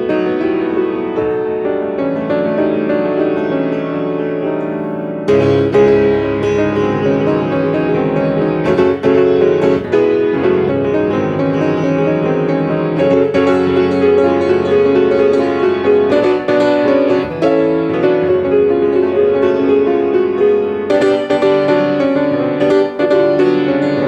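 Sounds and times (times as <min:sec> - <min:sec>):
solo piano: 0:00.0 - 0:24.0.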